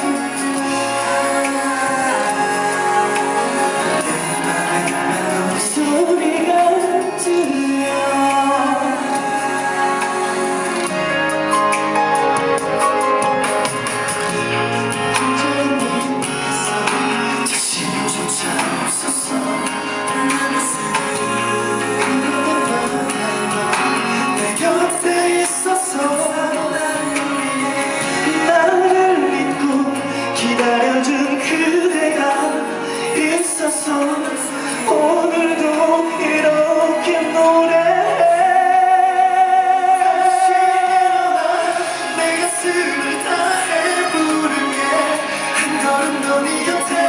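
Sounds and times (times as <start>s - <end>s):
backing instruments: 0.0s - 47.0s
pop ballad singing: 0.0s - 47.0s.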